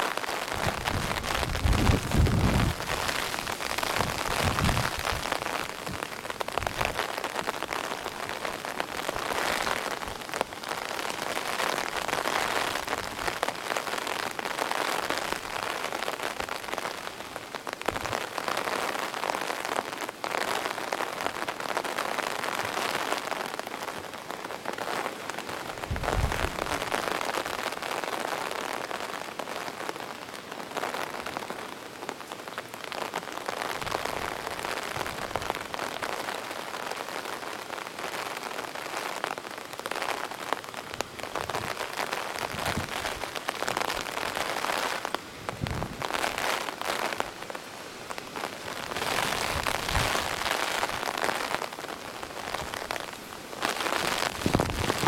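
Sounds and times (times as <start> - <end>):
heavy rain on wood and water: 0.0 - 55.0.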